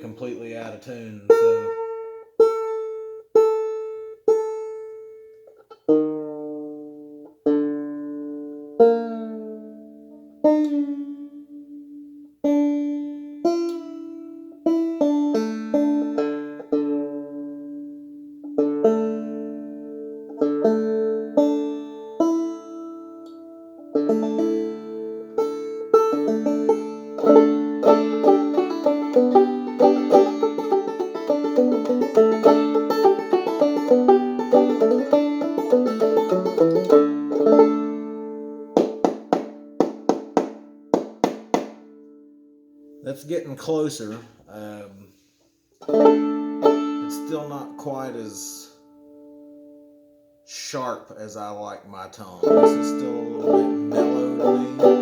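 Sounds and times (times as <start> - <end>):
banjo notes plucked: 0.0 - 43.4, 45.8 - 49.9, 52.2 - 55.0.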